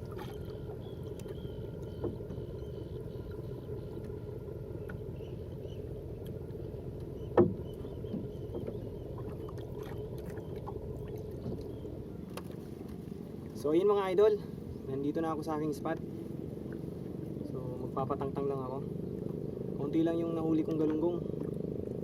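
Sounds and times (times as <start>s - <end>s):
water rushing against hull: 0.0s - 22.0s.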